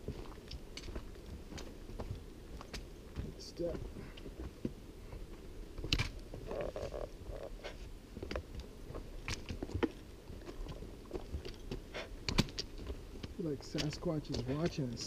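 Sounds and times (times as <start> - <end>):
footsteps on rocky dirt trail: 0.0 - 15.0.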